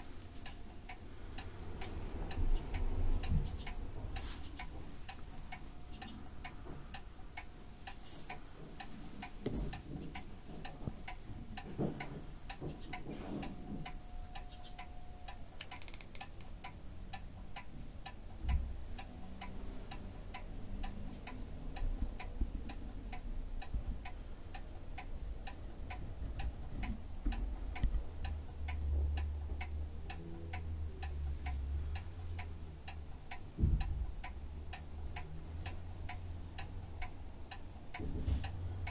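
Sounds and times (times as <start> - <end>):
steady ticking: 0.0 - 38.9.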